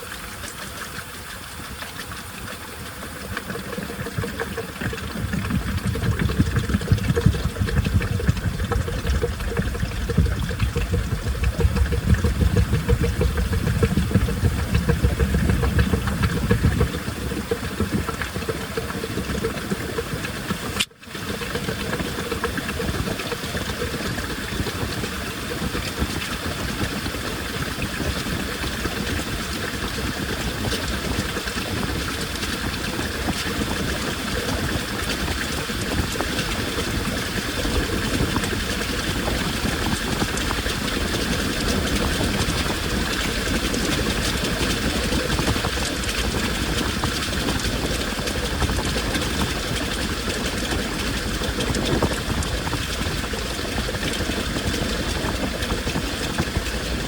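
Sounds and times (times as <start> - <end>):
washing machine motor running: 0.0 - 57.0
water churning in drum: 0.0 - 57.0.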